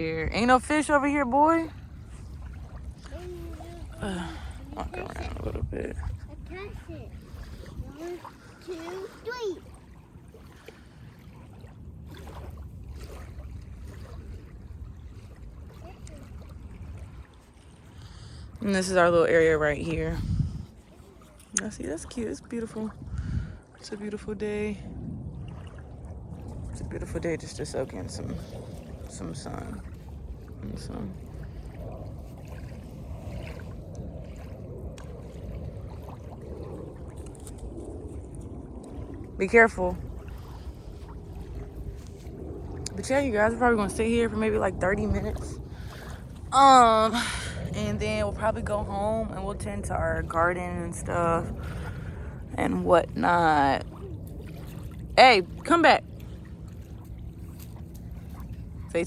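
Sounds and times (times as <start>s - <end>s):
faint outdoor wash: 0.0s - 59.0s
faint trickling water: 0.0s - 59.0s
wind buffeting microphone: 0.0s - 59.0s.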